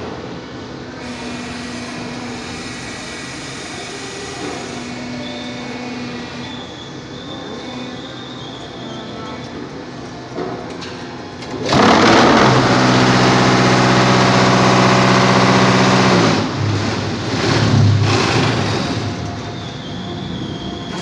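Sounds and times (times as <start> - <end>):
block making machine humming: 0.0 - 21.0.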